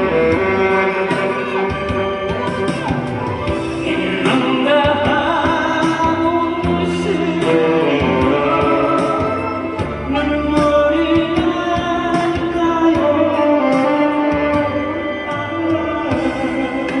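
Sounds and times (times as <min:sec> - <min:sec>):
backing track with bass and drums: 0:00.0 - 0:17.0
person singing a ballad: 0:00.0 - 0:17.0.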